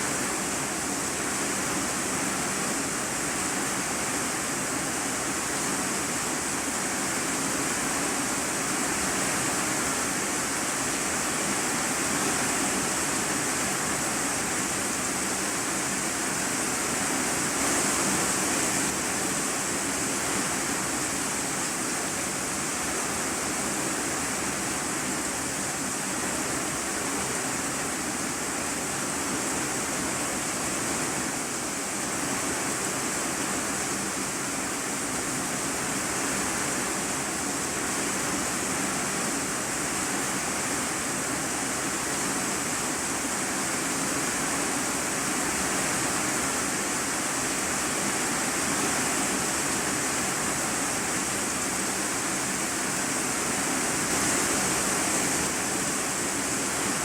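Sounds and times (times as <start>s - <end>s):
heavy rain on a metal roof: 0.0s - 57.0s.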